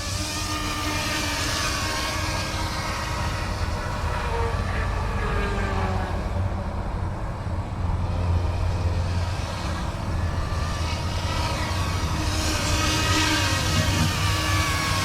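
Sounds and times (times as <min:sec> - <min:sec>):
motor whine: 0:00.0 - 0:15.0
rc helicopter rotor hum: 0:00.0 - 0:15.0.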